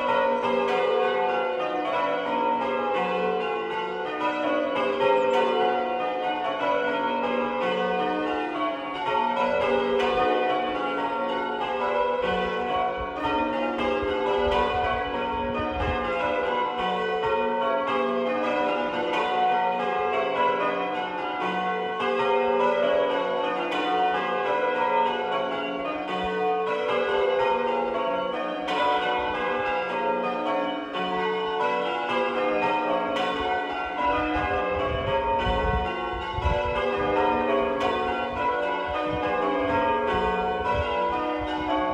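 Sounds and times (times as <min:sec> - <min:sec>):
church bells change ringing: 0:00.0 - 0:41.9.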